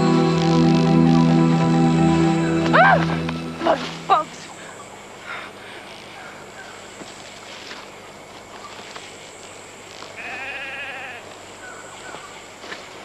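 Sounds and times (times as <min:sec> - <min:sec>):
jungle ambience: 0:00.0 - 0:13.0.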